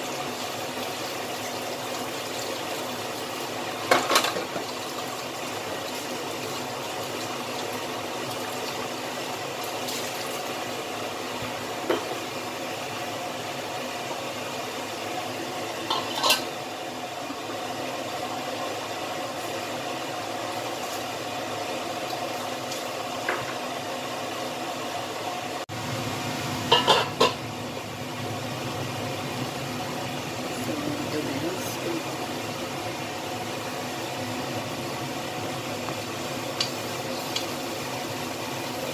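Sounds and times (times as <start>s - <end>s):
sauce boiling in a wok: 0.0s - 38.9s.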